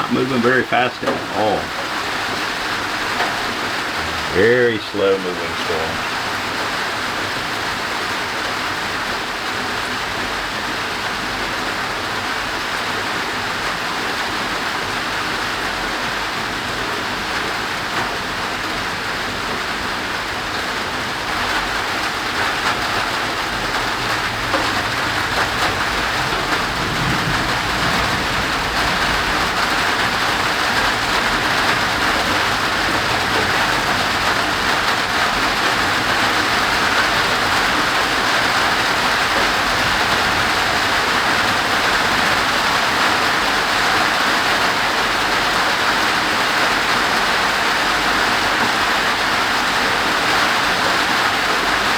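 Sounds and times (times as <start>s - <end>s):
thunderstorm rain falling: 0.0s - 51.9s.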